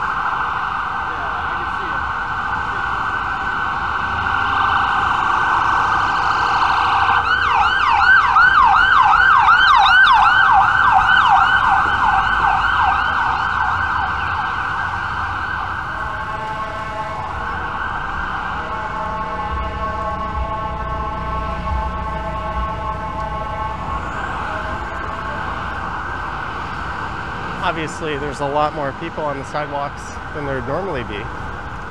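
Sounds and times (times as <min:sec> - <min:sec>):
emergency vehicle siren yelping: 0:00.0 - 0:31.9.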